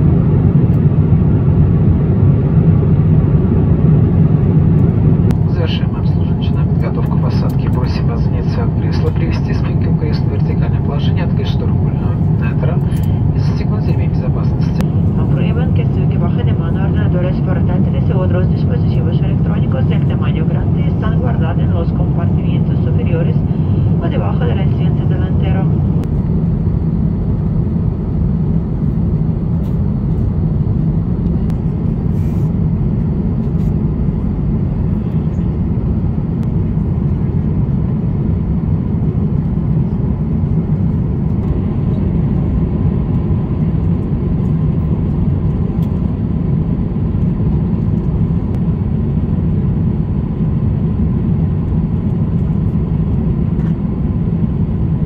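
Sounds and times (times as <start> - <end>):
airliner cabin engine roar: 0.0 - 55.0.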